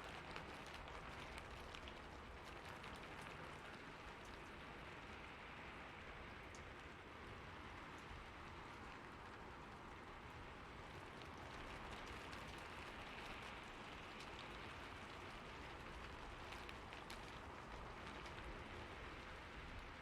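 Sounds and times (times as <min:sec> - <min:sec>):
raindrop ticks: 0:00.0 - 0:07.0, 0:10.6 - 0:20.0
rain on a rooftop: 0:00.0 - 0:20.0.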